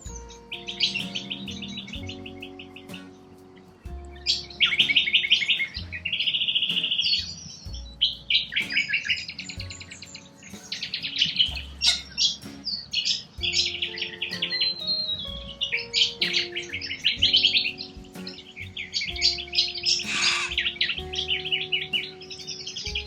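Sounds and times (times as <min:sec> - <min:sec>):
birds chirping in trills: 0:00.0 - 0:23.0
soft background music: 0:00.0 - 0:23.0.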